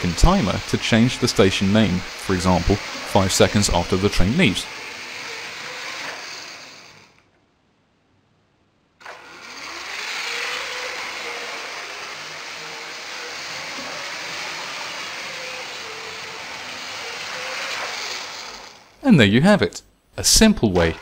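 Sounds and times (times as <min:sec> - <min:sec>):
wheels on plastic track: 0:00.0 - 0:07.2, 0:09.1 - 0:19.0
toy train electric motor whine: 0:00.0 - 0:07.3, 0:09.0 - 0:19.0.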